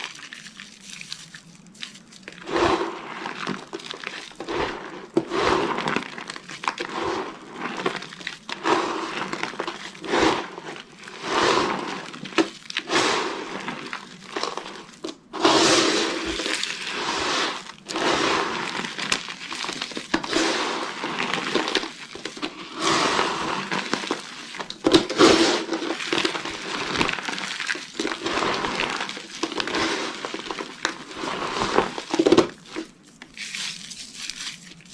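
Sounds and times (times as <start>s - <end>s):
dry soap crunching: 0.0s - 34.9s.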